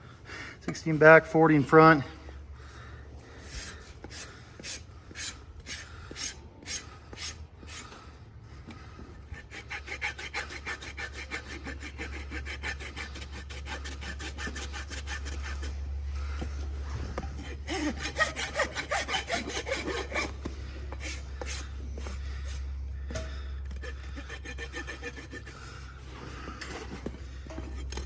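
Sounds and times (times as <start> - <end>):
rasp filing hoof: 3.4 - 8.0, 8.6 - 28.0.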